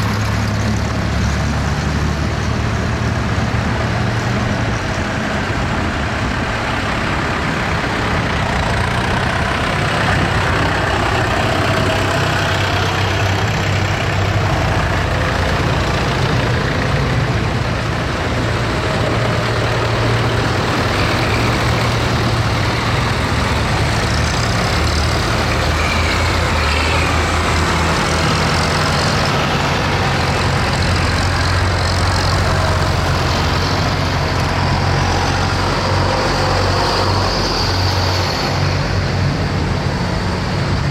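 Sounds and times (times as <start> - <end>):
tractor engines droning: 0.0 - 40.9.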